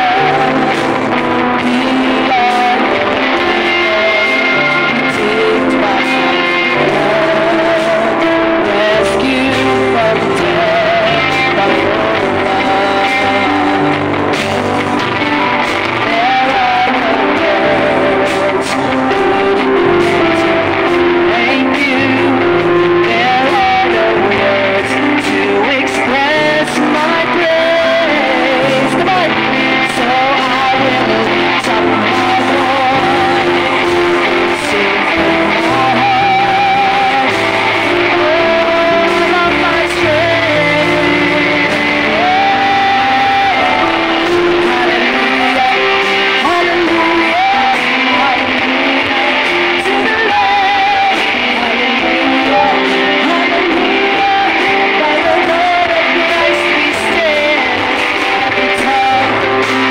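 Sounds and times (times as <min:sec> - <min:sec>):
band playing: 0:00.0 - 0:59.9
woman singing: 0:00.0 - 0:59.9.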